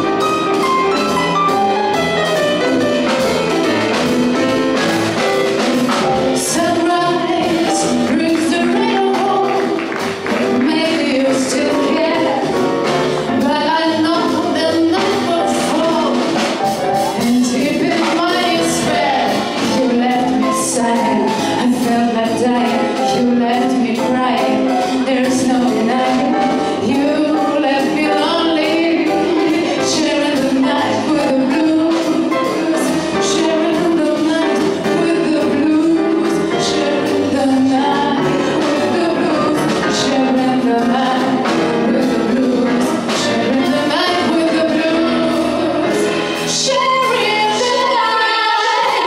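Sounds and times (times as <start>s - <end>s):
double bass: 0.0s - 49.0s
drum kit with cymbals: 0.0s - 49.0s
piano: 0.0s - 49.0s
woman singing into a microphone: 6.4s - 12.6s, 13.3s - 16.4s, 17.1s - 49.0s.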